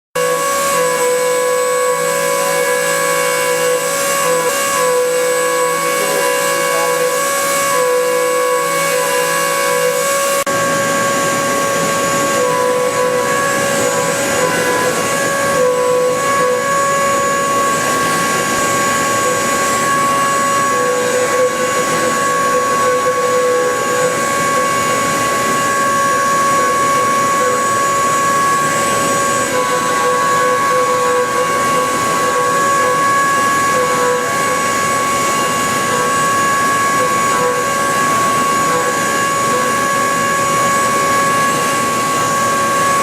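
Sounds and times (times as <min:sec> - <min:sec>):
milling machine cutter whine: 0:00.2 - 0:43.0.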